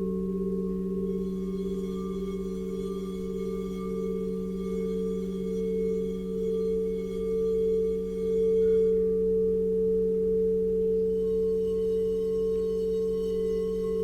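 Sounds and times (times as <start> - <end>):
singing bowls ringing: 0.0 - 14.0.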